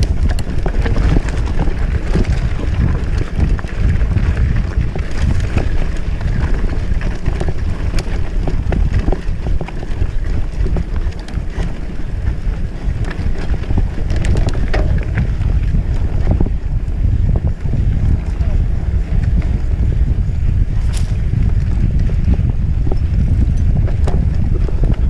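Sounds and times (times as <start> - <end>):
bike rattling on rough track: 0.0 - 25.0
wind buffeting microphone: 0.0 - 25.0.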